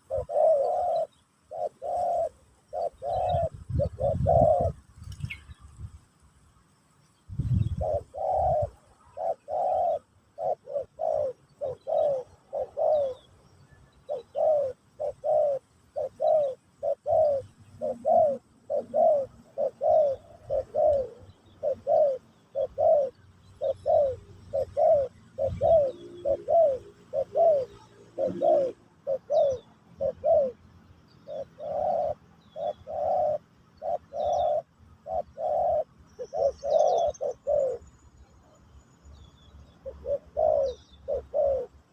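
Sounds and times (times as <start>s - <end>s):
dove cooing: 0.0s - 5.5s, 7.4s - 41.9s
small birds chirping: 0.0s - 41.9s.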